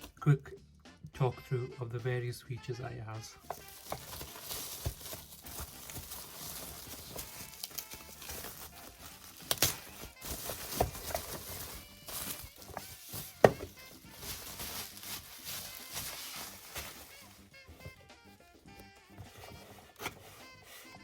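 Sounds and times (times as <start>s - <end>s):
background music: 0.0s - 21.0s
packaging rustling: 3.4s - 21.0s.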